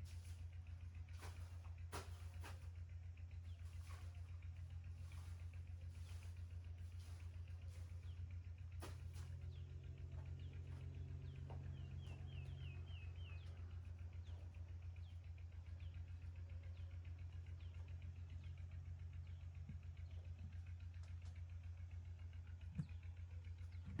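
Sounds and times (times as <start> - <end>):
low pulsing hum: 0.0 - 24.0.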